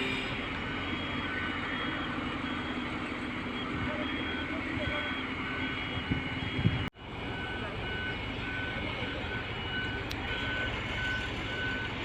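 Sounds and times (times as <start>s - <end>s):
truck engine running: 0.0s - 12.0s
truck reversing alarm beeping: 0.0s - 12.0s.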